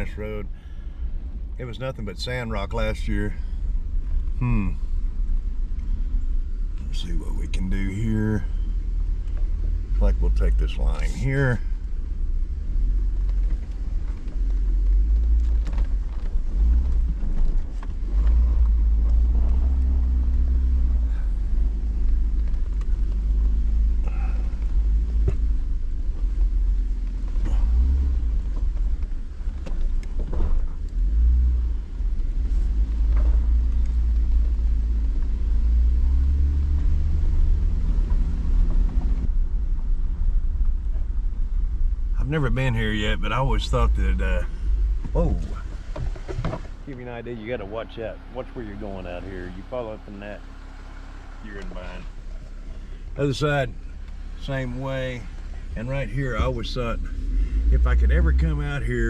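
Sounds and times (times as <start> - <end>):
car engine at low speed: 0.0 - 59.0.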